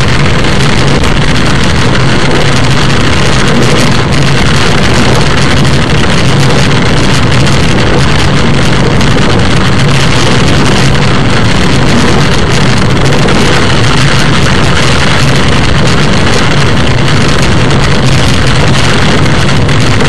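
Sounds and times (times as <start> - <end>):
car engine and tyre noise: 0.0 - 20.0
rain and spray hissing: 0.0 - 20.0.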